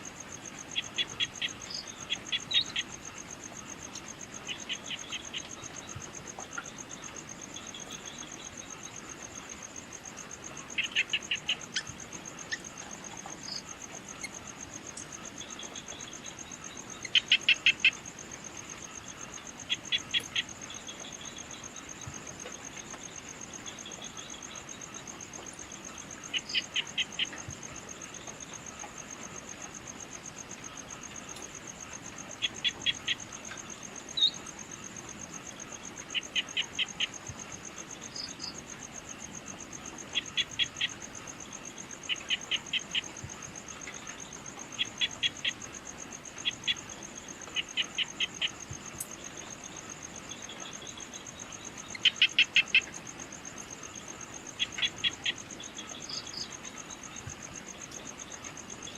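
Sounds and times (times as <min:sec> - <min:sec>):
insect trill: 0:00.0 - 0:58.9.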